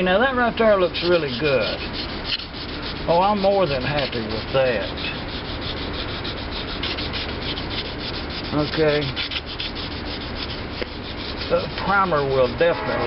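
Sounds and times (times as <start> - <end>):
sandpaper rubbing on metal: 0.0 - 13.0.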